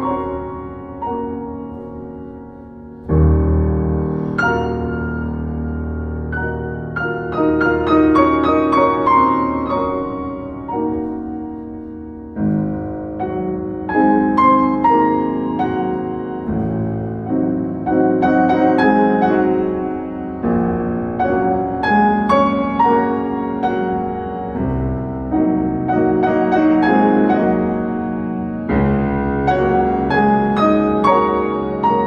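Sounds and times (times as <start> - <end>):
solo piano: 0.0 - 32.0.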